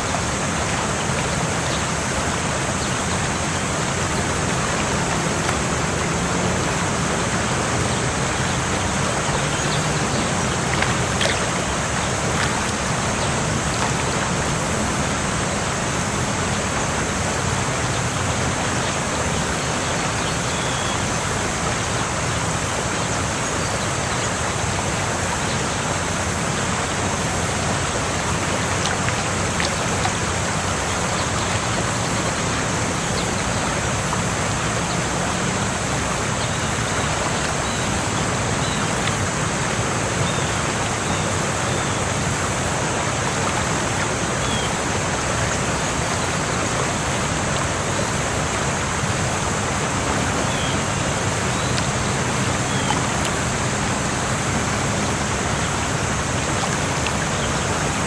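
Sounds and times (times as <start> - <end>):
waterfall splashing: 0.0 - 58.0.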